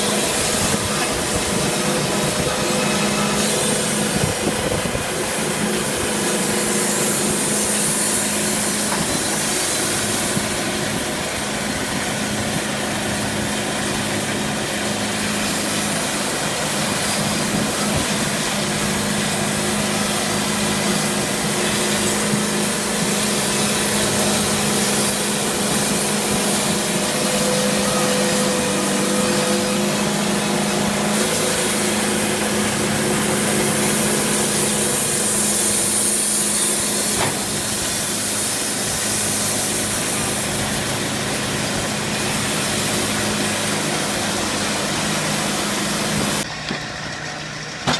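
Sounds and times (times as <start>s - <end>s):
sawmill machine hum: 0.0s - 47.9s.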